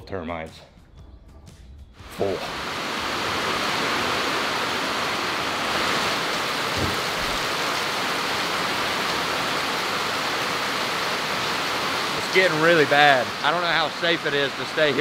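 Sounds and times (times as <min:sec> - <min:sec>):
heavy rain on a metal roof: 0:02.3 - 0:15.0.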